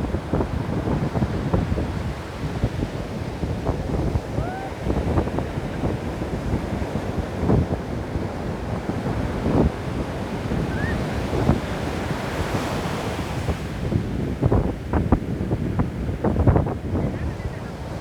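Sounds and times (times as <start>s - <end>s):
ocean surf breaking on shore: 0.0s - 18.0s
wind buffeting microphone: 0.0s - 18.0s.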